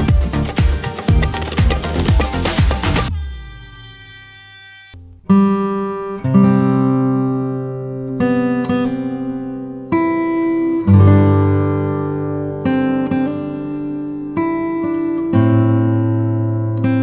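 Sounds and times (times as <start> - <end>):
acoustic guitar chords ringing: 0.0 - 17.0.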